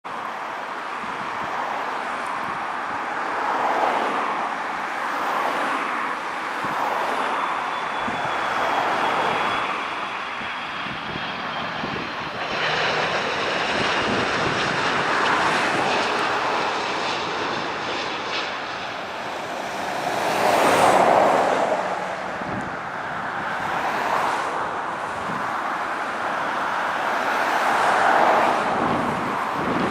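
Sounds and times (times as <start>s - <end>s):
jet engines rushing with whine: 0.1s - 29.9s.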